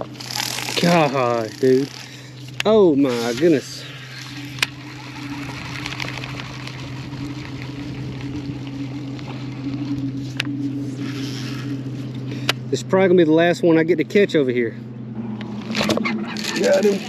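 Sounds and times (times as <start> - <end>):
small electric motor humming: 0.0 - 17.0.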